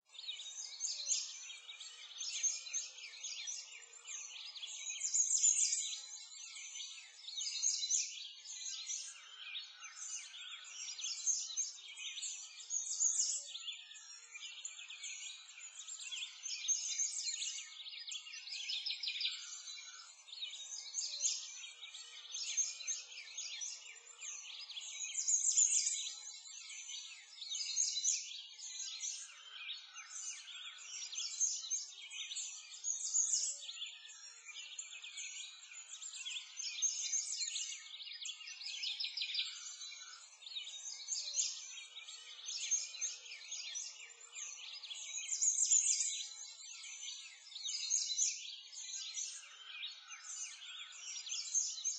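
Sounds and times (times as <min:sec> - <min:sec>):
birds chirping and trilling: 0:00.1 - 0:51.9.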